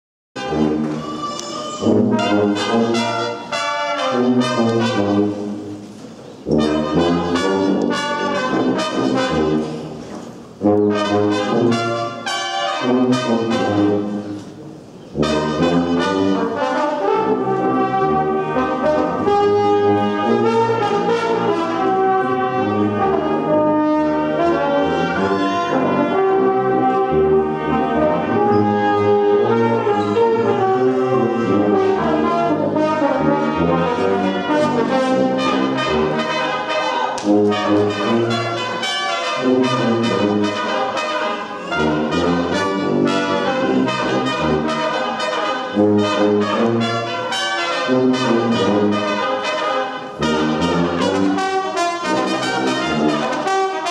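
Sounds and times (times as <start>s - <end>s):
brass band playing: 0.4s - 53.9s.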